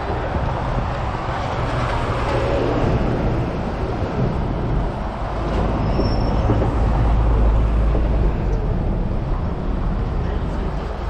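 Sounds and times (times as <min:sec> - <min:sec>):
tram rattling on tracks: 0:00.0 - 0:11.0.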